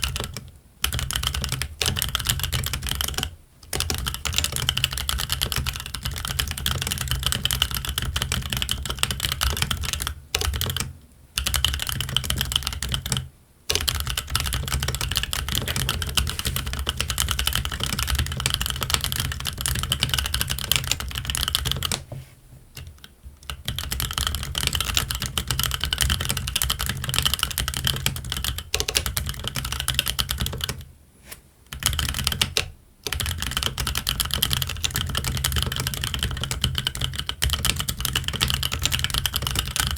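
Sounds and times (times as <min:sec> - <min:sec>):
mechanical keyboard typing: 0:00.0 - 0:22.1, 0:22.8 - 0:30.9, 0:31.7 - 0:39.9.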